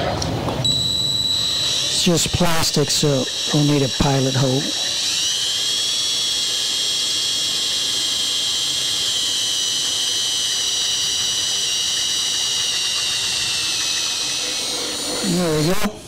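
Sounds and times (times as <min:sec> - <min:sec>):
drill boring through plastic: 0:00.7 - 0:16.0.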